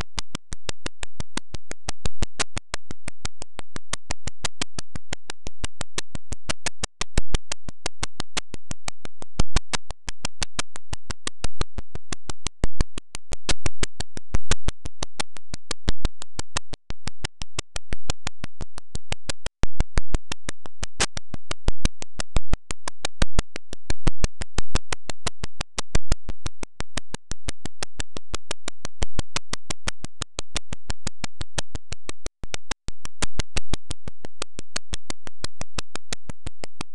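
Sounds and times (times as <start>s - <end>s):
electronic clicking beat: 0.0s - 36.9s.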